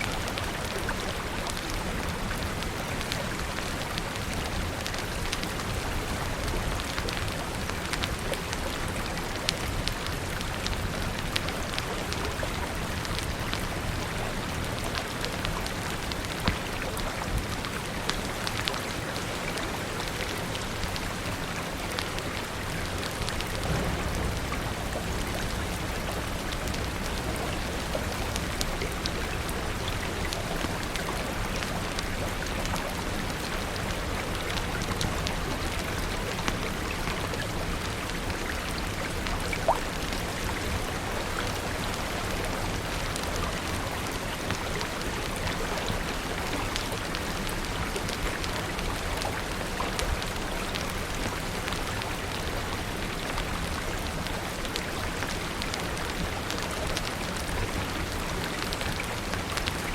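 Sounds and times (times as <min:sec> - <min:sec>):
rain falling: 0:00.0 - 0:59.9
fire crackling: 0:00.1 - 0:59.9.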